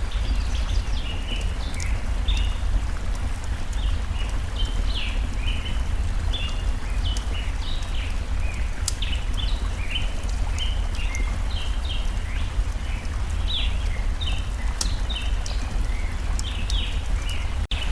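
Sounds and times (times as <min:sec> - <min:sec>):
campfire crackles: 0:00.0 - 0:17.9
flowing water rumble: 0:00.0 - 0:17.9
small birds singing: 0:00.0 - 0:17.9.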